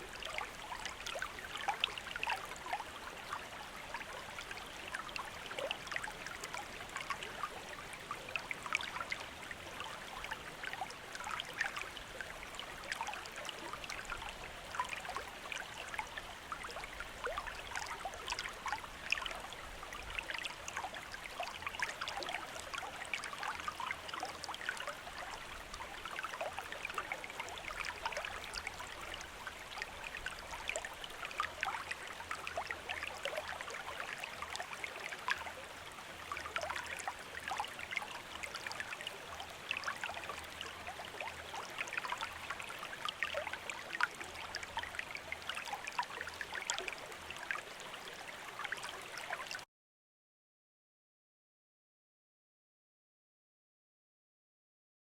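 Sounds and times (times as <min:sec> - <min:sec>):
stream running over rocks: 0:00.0 - 0:49.6.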